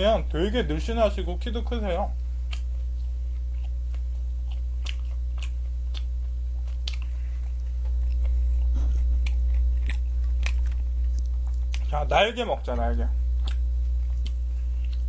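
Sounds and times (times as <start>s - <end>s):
low electrical hum: 0.0s - 15.0s
chewing crunchy food: 2.4s - 15.0s.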